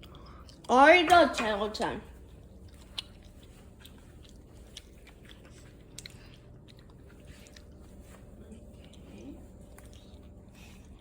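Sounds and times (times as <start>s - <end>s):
chewing bread: 0.0s - 0.8s, 2.2s - 11.0s.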